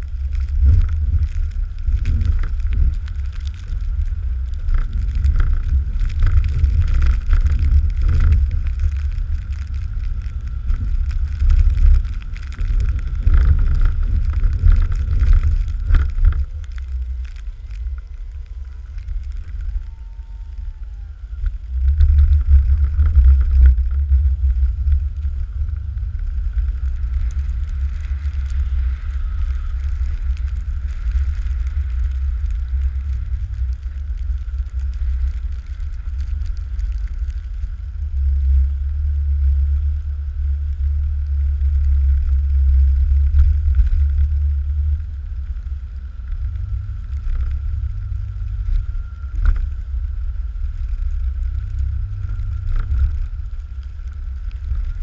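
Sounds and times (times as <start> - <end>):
faint high whine: 0.0 - 55.0
truck engine low rumble: 0.0 - 55.0.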